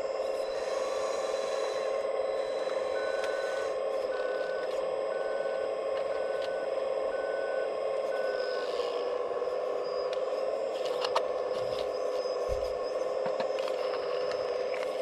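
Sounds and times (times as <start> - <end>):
electric motor whine: 0.0 - 15.0
reversing beeper: 0.0 - 15.0.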